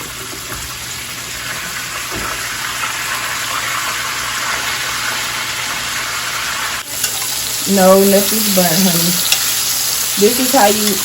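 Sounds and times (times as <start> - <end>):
sausage sizzling in a pan: 0.0 - 11.0.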